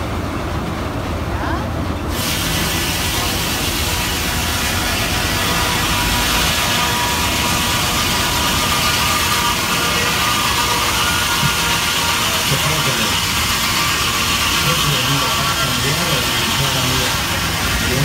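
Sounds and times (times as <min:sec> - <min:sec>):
circular saw and log carriage running: 0:02.0 - 0:18.0.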